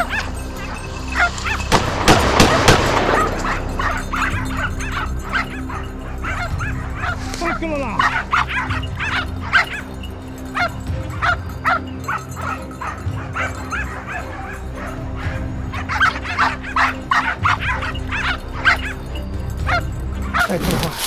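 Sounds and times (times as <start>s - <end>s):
background music: 0.0s - 21.0s
dogs barking and yelping: 0.0s - 21.0s.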